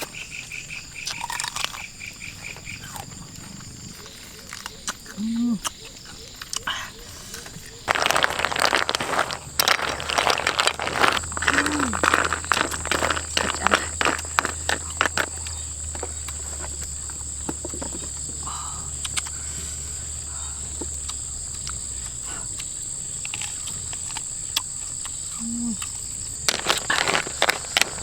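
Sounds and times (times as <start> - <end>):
insects shrilling: 0.0 - 28.0.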